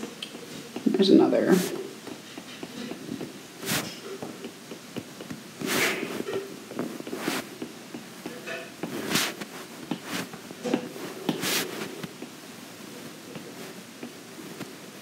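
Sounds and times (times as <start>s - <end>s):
stylus scratching on tablet: 0.3s - 15.0s.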